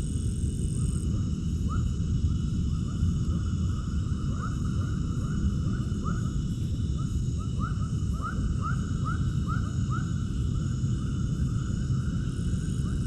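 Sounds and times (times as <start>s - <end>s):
loud steady low rumble: 0.0s - 13.0s.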